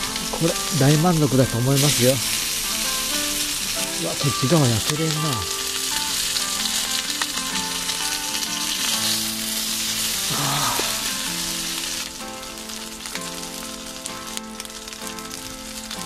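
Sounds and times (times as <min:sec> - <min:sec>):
meat sizzling in a pan: 0:00.0 - 0:16.0
soft background music: 0:00.0 - 0:16.0.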